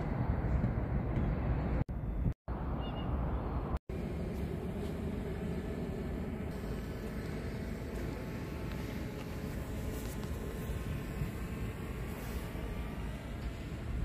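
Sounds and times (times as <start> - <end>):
city ambience rumble: 0.0 - 14.0.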